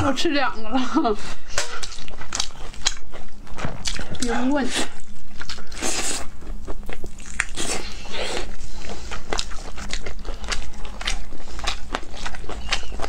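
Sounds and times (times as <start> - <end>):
people chewing chicken wings: 0.9 - 13.0.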